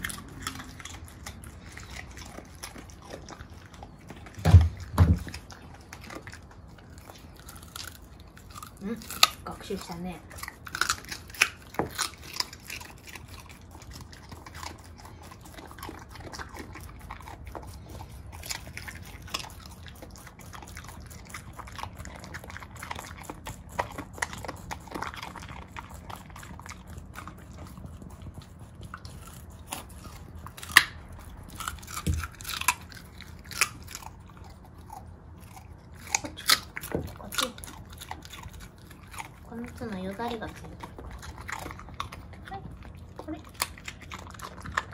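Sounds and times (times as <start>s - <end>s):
dog crunching carrot: 0.0s - 44.9s
rabbit nibbling carrot stalks: 0.0s - 44.9s.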